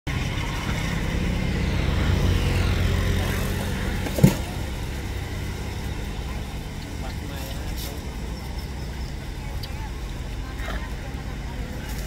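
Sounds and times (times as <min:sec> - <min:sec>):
low engine drone: 0:00.1 - 0:12.0.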